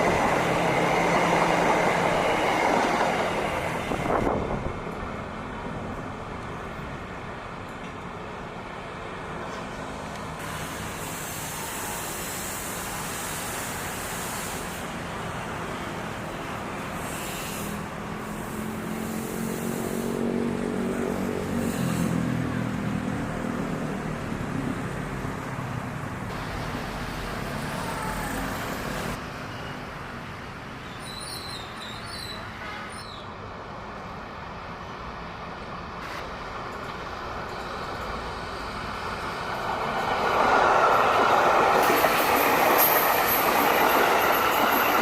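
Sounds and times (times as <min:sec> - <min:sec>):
train wheels rumbling on track: 0:00.0 - 0:29.2, 0:35.1 - 0:45.0.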